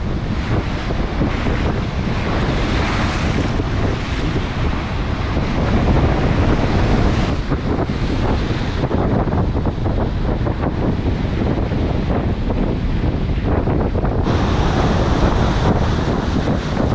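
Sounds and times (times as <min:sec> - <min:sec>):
waves breaking: 0:00.0 - 0:16.9
wind buffeting microphone: 0:00.0 - 0:16.9.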